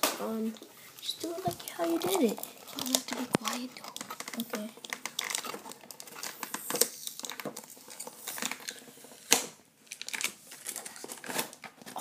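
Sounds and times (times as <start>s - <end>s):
packaging crinkling: 0.4s - 12.0s
tape tearing: 1.1s - 12.0s.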